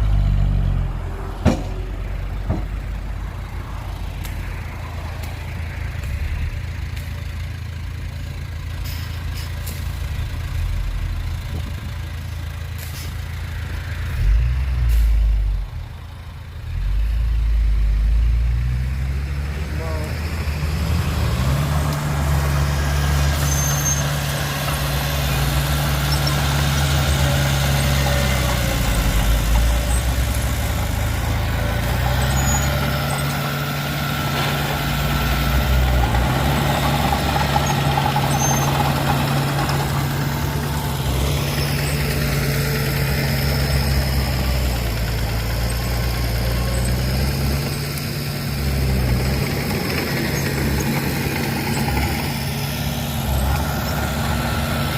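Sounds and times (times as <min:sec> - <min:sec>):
diesel engine revving: 0:00.0 - 0:54.9.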